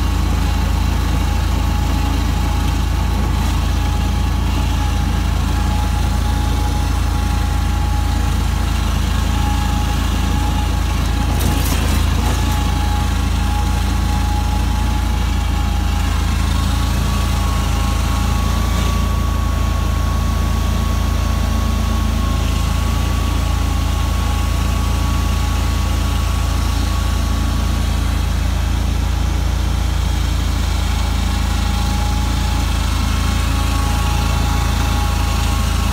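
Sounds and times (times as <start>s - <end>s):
mower engine rumble: 0.0s - 35.9s
mower whine: 0.0s - 35.9s.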